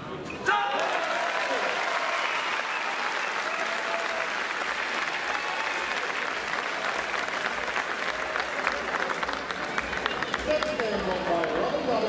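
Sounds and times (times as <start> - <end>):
spectators applauding: 0.5 - 11.9.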